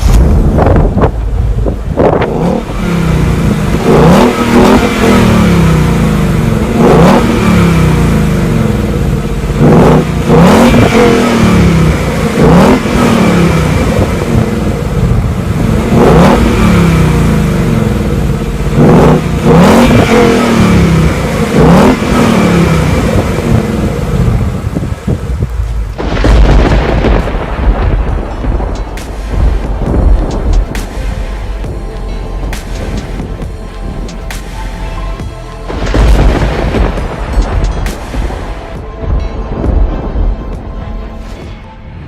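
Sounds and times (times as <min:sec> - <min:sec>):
car engine revving: 0:00.0 - 0:38.8
exhaust cracks: 0:00.0 - 0:38.9.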